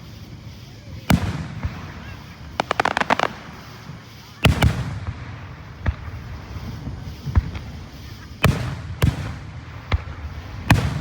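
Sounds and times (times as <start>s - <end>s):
fireworks bangs with echo: 0.0s - 11.0s.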